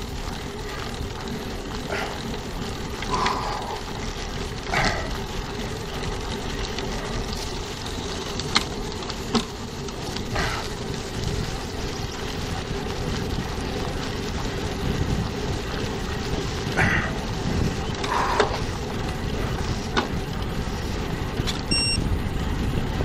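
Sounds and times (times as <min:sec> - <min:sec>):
wind and tyre noise: 0:00.0 - 0:23.0.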